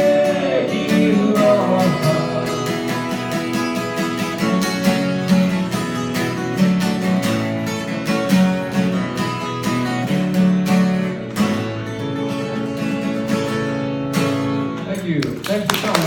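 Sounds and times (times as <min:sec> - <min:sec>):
acoustic guitar strumming: 0:00.0 - 0:15.2.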